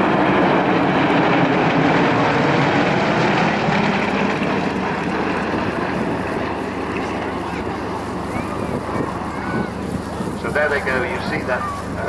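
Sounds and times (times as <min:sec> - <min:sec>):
propeller aircraft flying past: 0:00.0 - 0:12.0.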